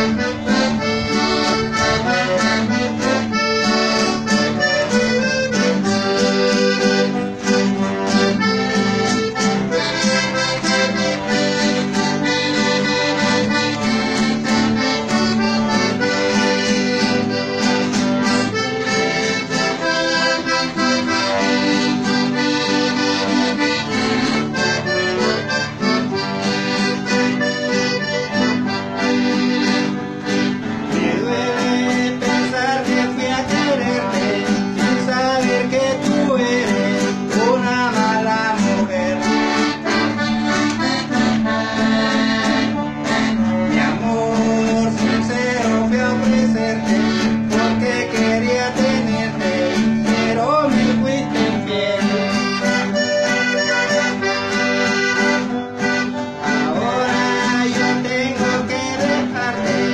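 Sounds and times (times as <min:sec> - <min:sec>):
accordion music: 0:00.0 - 0:59.9
plucked strings: 0:00.0 - 0:59.9.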